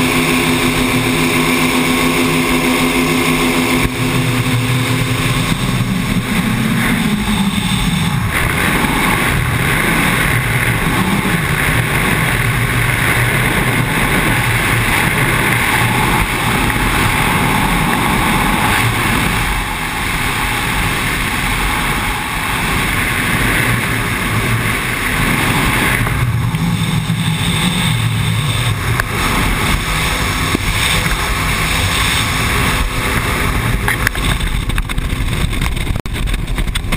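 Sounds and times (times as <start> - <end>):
rushing water: 0.0 - 36.9
speedboat engine drone: 0.0 - 36.9
wind buffeting microphone: 0.0 - 36.9.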